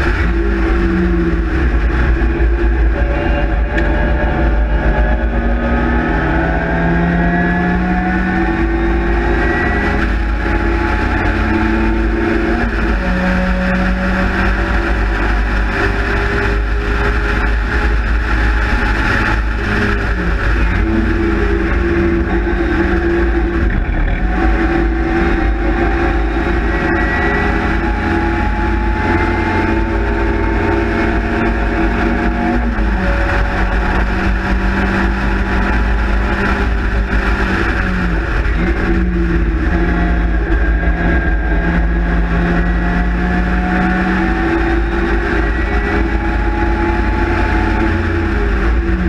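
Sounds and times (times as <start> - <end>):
race car engine running hard: 0.0 - 49.0
wind rushing through cockpit: 0.0 - 49.0.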